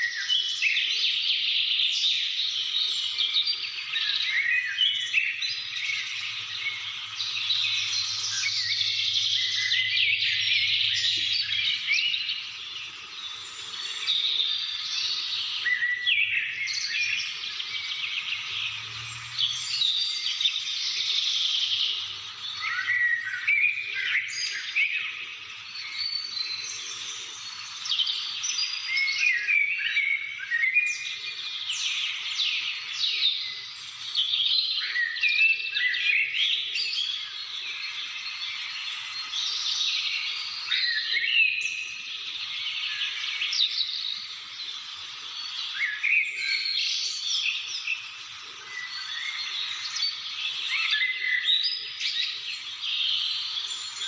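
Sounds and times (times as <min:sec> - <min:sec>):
chorus of birds singing: 0:00.0 - 0:54.0.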